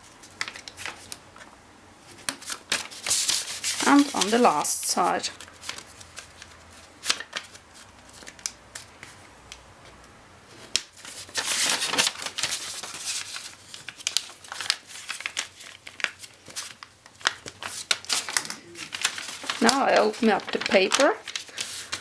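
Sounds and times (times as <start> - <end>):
paper rustling and creasing: 0.0 - 9.3, 9.9 - 22.0.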